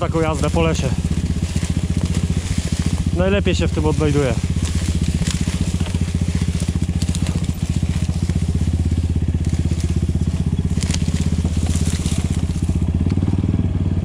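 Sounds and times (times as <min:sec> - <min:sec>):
motorcycle engine running: 0:00.0 - 0:14.0
twigs cracking under tyres: 0:00.0 - 0:14.0.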